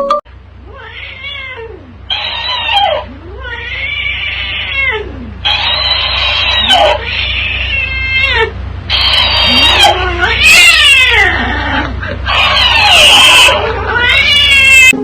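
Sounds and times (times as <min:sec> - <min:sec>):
cat yowling: 0:00.7 - 0:15.0.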